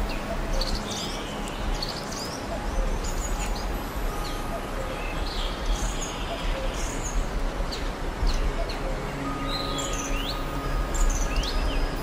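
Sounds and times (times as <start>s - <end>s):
background hiss: 0.0s - 12.0s
songbirds chirping and singing: 0.0s - 12.0s.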